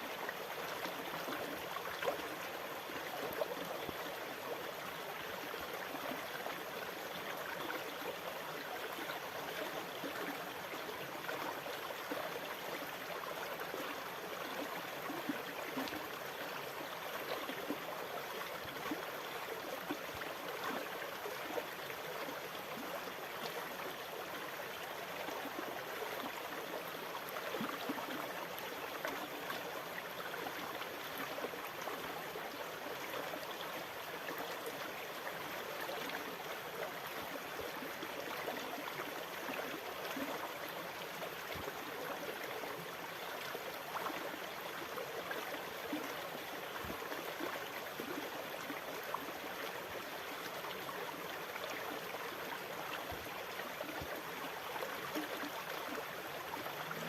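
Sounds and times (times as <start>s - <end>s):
running water babbling: 0.0s - 57.0s.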